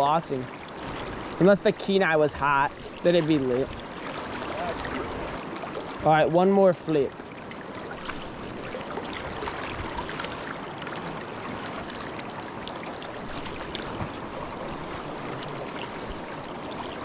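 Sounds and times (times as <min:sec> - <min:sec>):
river current rushing: 0:00.0 - 0:17.0.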